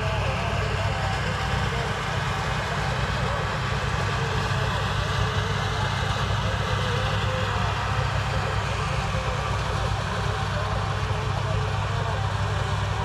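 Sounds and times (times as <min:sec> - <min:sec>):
harvester mechanical rush: 0:00.0 - 0:13.0
tractor engine drone: 0:00.0 - 0:13.0.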